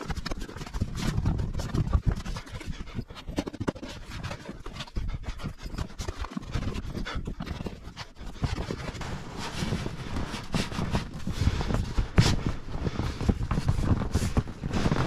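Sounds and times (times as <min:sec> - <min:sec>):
boards knocking and scraping: 0:00.0 - 0:12.5.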